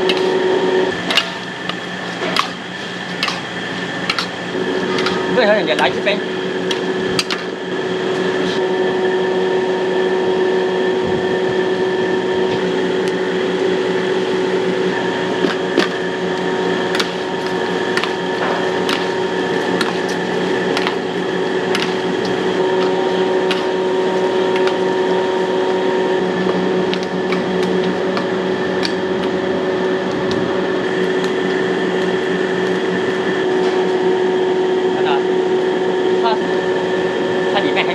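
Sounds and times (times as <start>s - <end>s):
stove burner and fans humming: 0.0s - 37.9s.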